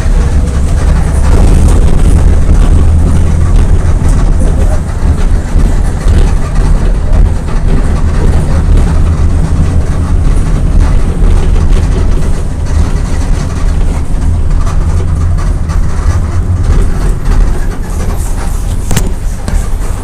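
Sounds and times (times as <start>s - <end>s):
bus diesel engine rumbling: 0.0s - 20.0s
road and body noise: 0.0s - 20.0s.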